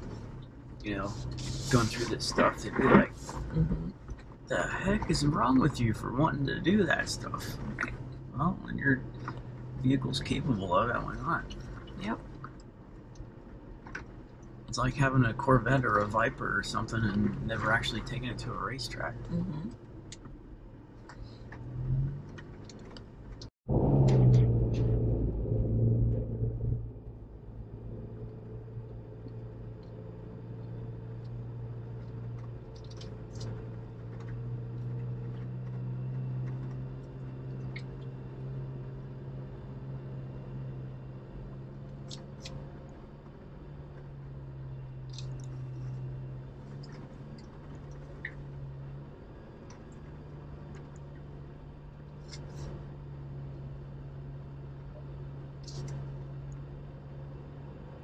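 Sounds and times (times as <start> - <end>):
car engine low hum from cabin: 0.0 - 58.0.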